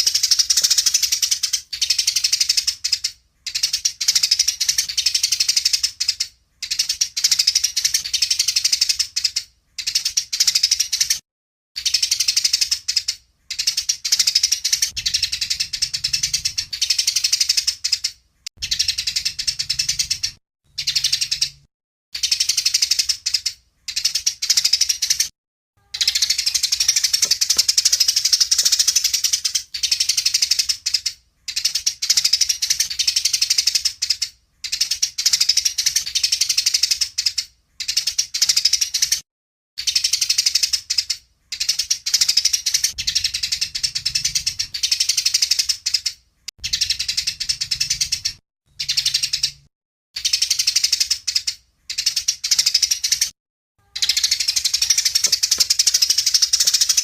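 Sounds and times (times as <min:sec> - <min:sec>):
songbird rattling trills: 0:00.0 - 0:11.1, 0:11.8 - 0:36.5, 0:39.8 - 0:57.0.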